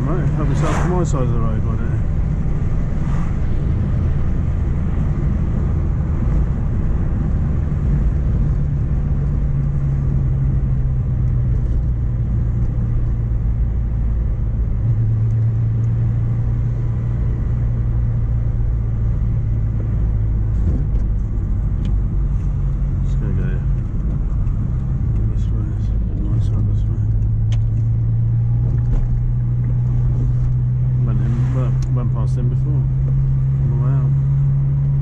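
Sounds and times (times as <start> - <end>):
car engine running: 0.0 - 35.0
road and tyre noise: 0.0 - 35.0.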